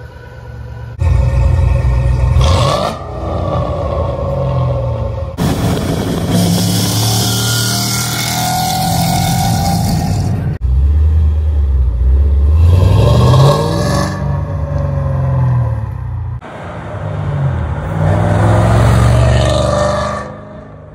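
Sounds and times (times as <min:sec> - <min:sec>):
car engine and exhaust revving: 0:00.9 - 0:20.9.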